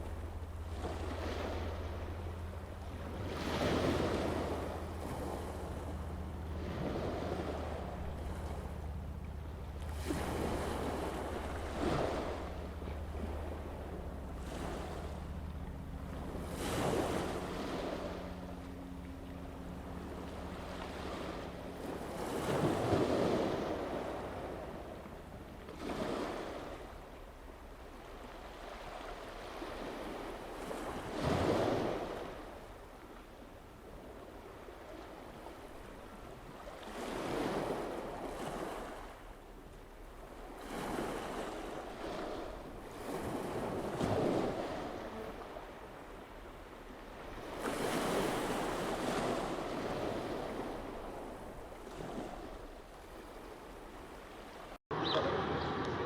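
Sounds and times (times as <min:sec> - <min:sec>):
small waves washing ashore: 0:00.0 - 0:56.0.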